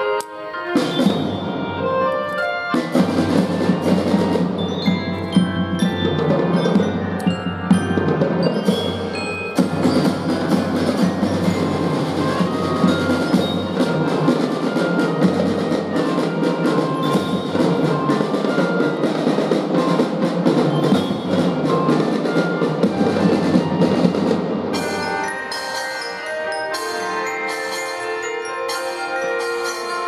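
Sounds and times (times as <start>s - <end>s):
bell-like glockenspiel melody: 0.0s - 30.0s
drums: 0.0s - 30.0s.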